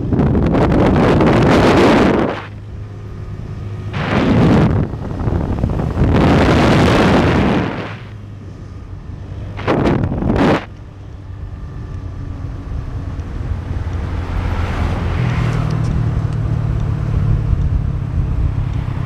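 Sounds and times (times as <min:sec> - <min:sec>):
motorbike engine hum: 0:00.0 - 0:19.0
wind buffeting microphone: 0:00.0 - 0:19.0.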